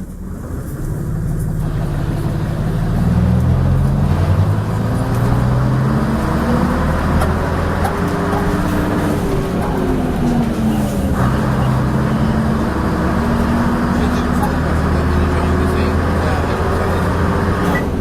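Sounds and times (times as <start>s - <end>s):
bus diesel engine accelerating: 0.0s - 18.0s.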